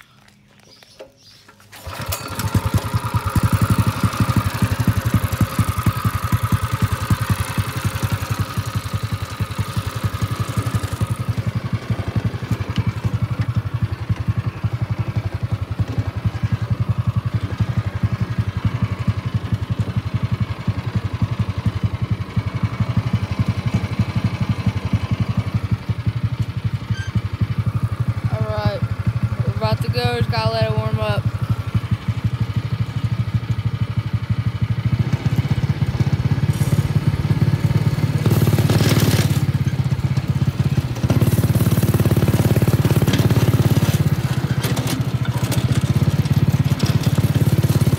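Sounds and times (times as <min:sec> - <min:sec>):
small engine fast idle: 0:01.2 - 0:29.6, 0:30.2 - 0:47.9.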